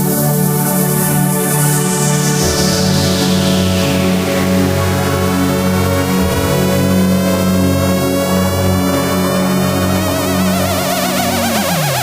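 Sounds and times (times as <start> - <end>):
electronic music with synth chords: 0.0 - 12.0.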